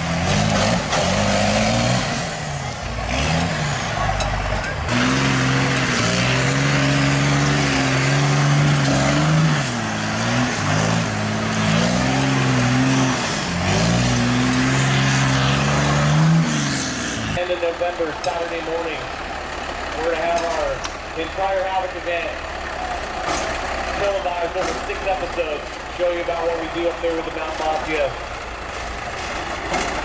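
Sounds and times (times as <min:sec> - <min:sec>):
engine revving hard: 0:00.0 - 0:30.0.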